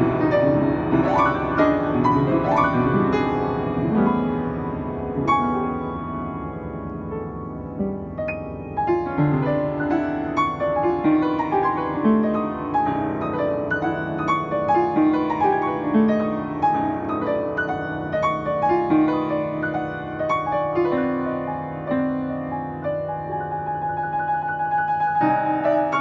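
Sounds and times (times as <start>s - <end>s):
upright piano playing: 0.0s - 26.0s.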